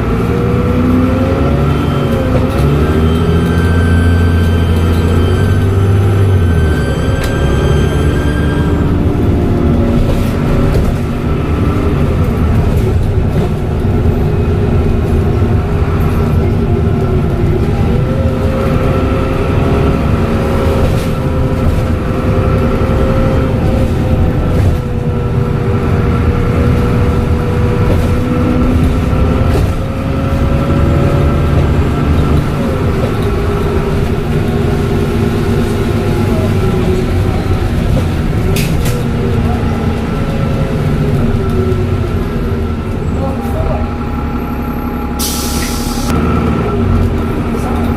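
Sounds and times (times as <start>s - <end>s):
bus engine running: 0.0s - 47.9s
drivetrain whine: 0.0s - 47.9s.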